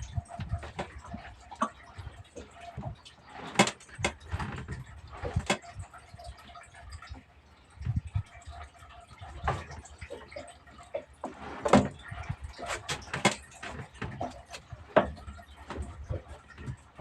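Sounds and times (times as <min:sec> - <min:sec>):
fishing gear knocking and clattering: 0:00.0 - 0:07.2, 0:09.4 - 0:17.0.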